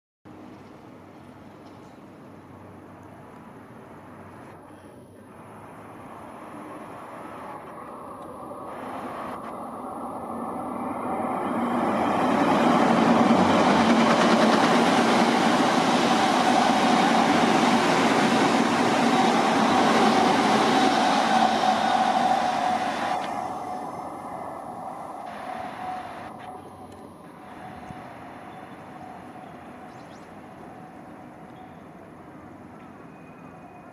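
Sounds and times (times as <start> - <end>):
train wheels rushing on rail: 0.3 - 33.9.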